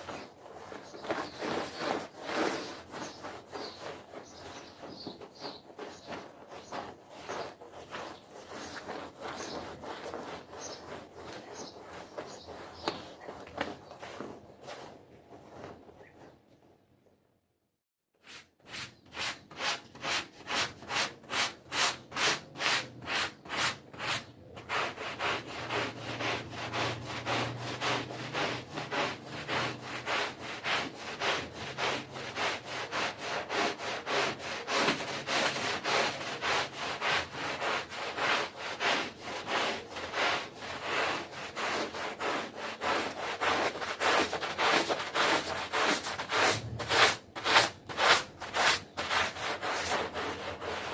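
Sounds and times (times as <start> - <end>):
stiff brush scrubbing carpet: 0.0 - 15.8, 18.2 - 50.9.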